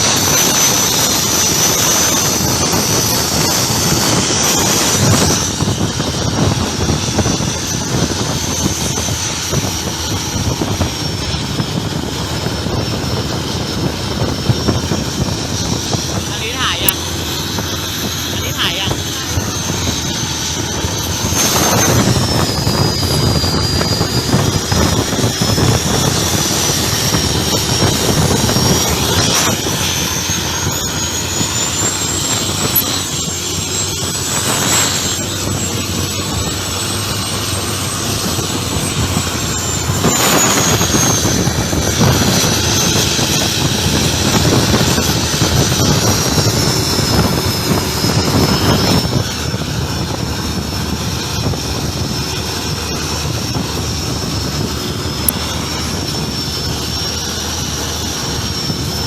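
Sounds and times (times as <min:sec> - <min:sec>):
diesel boat engine running hard: 0:00.0 - 0:59.0.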